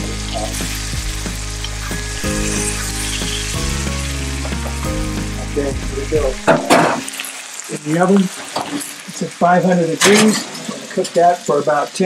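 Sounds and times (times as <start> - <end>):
steak sizzling in skillet: 0.0 - 12.0.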